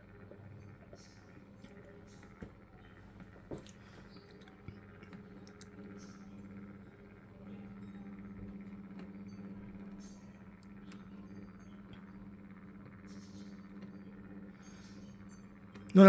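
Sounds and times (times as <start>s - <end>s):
turntable motor hum: 0.0s - 16.0s.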